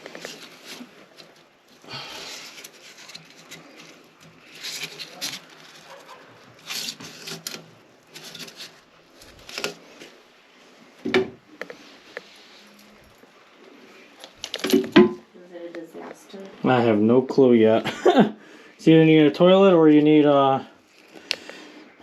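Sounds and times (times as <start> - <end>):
rustling and scraping: 0.0 - 17.0, 19.9 - 22.0.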